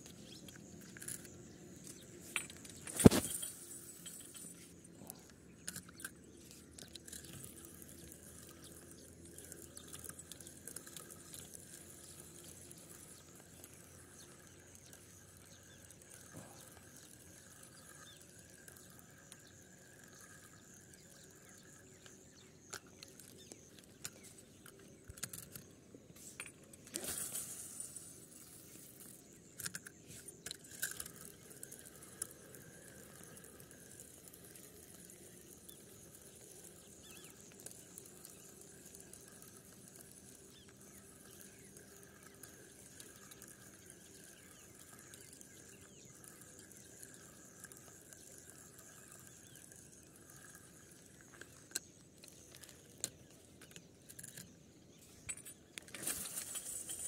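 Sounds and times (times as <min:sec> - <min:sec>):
fishing reel clicking and whirring: 0:00.0 - 0:57.0
small clicks: 0:00.0 - 0:57.0.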